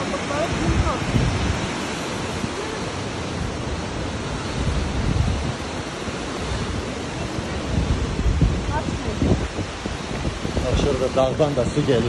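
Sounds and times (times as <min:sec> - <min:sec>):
mountain torrent roaring: 0:00.0 - 0:12.0
wind buffeting microphone: 0:00.0 - 0:12.0.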